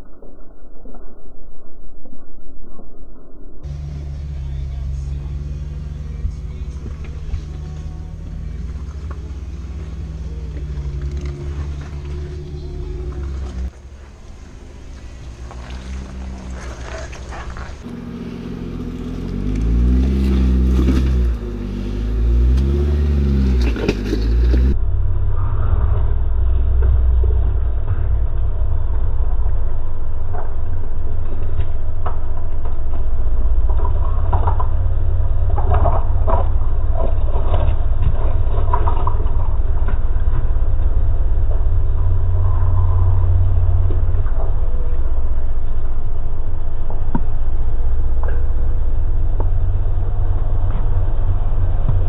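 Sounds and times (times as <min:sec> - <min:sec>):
off-road engine revving: 0:03.6 - 0:52.0.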